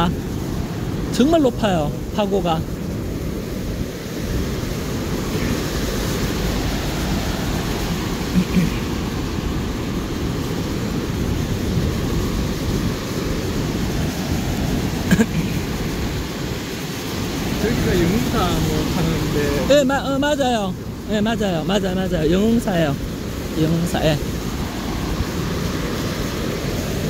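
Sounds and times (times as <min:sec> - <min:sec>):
surf breaking on beach: 0:00.0 - 0:27.0
wind rumbling on microphone: 0:00.0 - 0:27.0.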